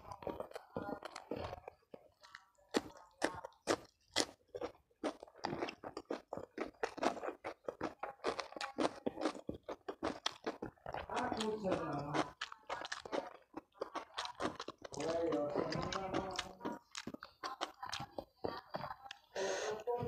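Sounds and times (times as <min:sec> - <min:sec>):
person chewing crunchy food: 0:00.0 - 0:19.7.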